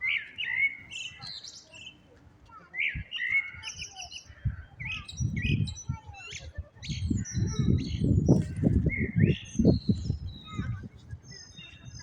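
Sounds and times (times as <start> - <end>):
blackbird singing: 0.0 - 2.0, 2.7 - 12.0.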